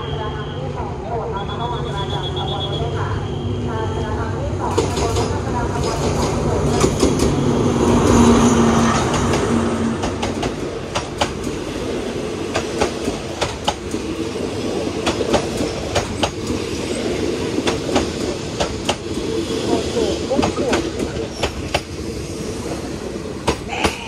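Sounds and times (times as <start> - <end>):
train rumble: 0.0 - 24.0
train wheels clicking on rails: 4.6 - 24.0.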